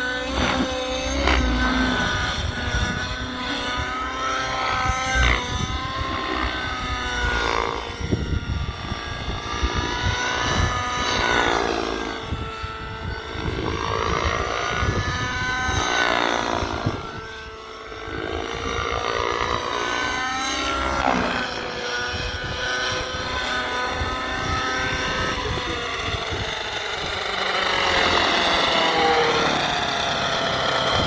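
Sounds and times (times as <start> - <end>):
rc helicopter engine and rotors: 0.0 - 31.0.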